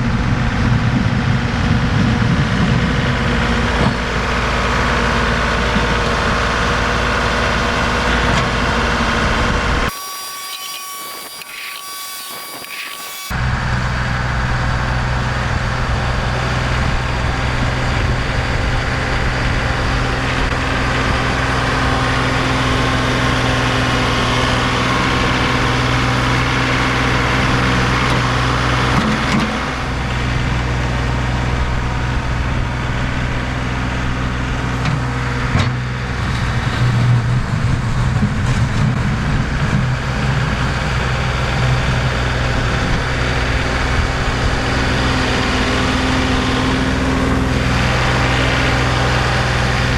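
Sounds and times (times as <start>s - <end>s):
tractor engine running under load: 0.0s - 9.9s, 13.3s - 49.9s.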